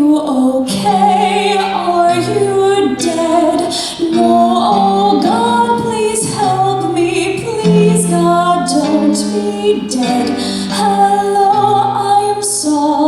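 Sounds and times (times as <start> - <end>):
woman singing slow melody: 0.0 - 13.0.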